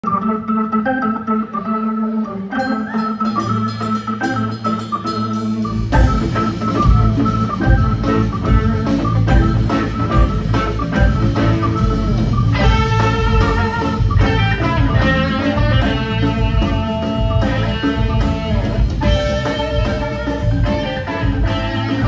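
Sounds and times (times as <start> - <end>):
electric guitar lead: 0.0 - 22.0
live rock band playing: 0.0 - 22.0
organ intro: 0.0 - 22.0.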